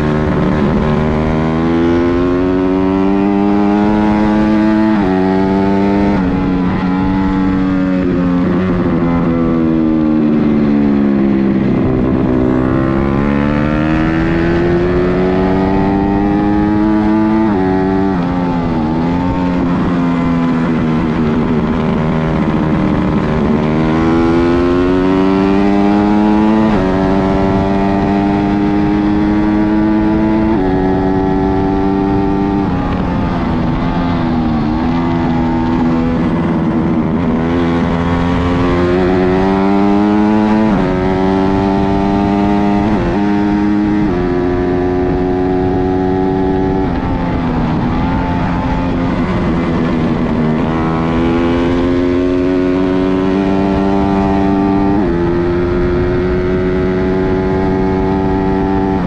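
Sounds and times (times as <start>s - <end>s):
racing motorcycle engine: 0.0s - 59.0s.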